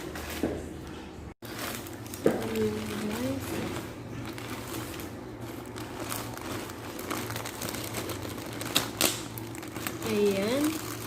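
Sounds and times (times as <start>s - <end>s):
packaging crinkling and rustling: 1.4s - 11.0s.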